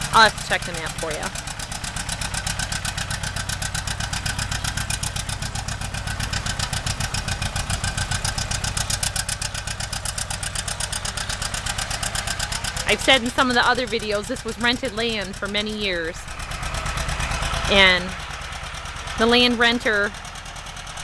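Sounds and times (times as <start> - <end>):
diesel tractor engine popping: 0.0 - 21.0.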